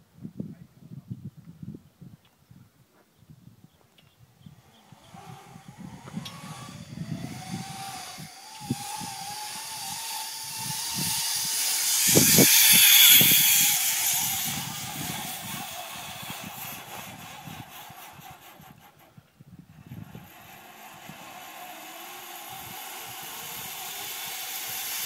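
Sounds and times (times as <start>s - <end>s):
zip line pulleys whirring: 4.5s - 25.0s.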